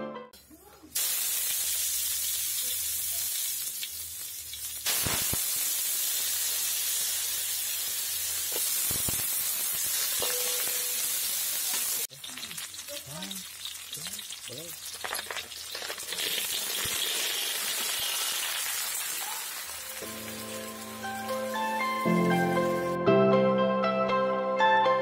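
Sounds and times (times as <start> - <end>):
crackling sizzle of frying: 0.4 - 23.0
hot wok sizzling hiss: 0.6 - 23.0.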